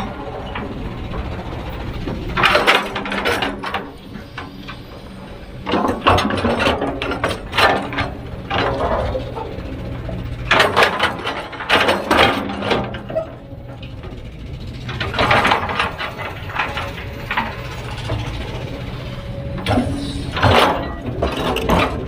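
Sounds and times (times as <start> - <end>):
low engine drone: 0.0 - 22.0
rattling clatter: 0.0 - 22.0.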